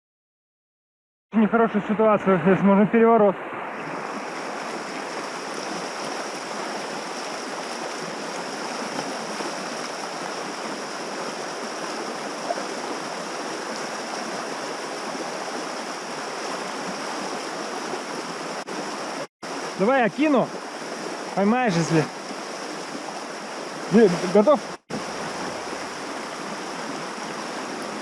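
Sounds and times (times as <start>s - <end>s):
river water rushing: 1.7s - 28.0s.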